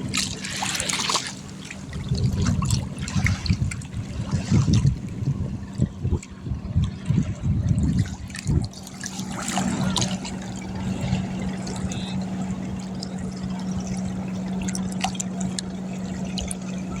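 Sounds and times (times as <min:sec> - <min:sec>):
boat motor humming: 0:00.0 - 0:17.0
water splashing and trickling: 0:00.0 - 0:17.0.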